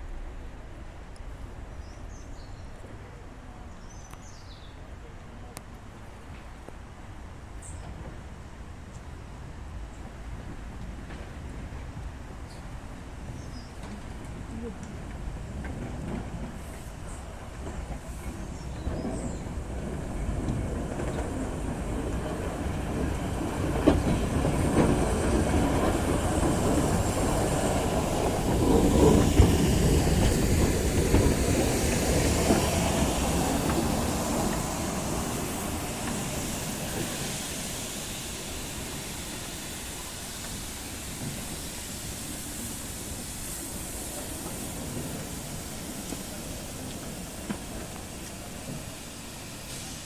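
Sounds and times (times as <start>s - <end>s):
train wheels clacking on rails: 7.6s - 50.0s.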